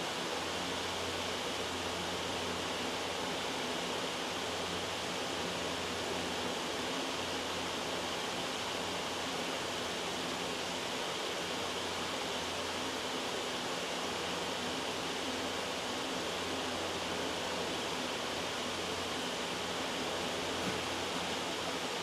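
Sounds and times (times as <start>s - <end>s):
white-noise hiss: 0.0s - 22.0s.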